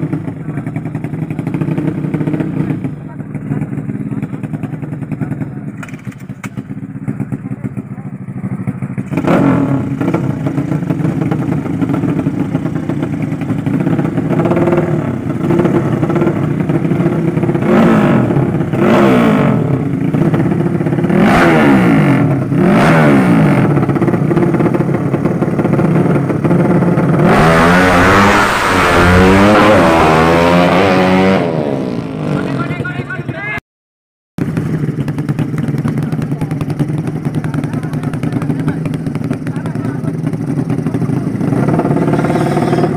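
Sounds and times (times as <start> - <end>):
racing motorcycle engines revving: 0.0 - 33.6, 34.4 - 42.9.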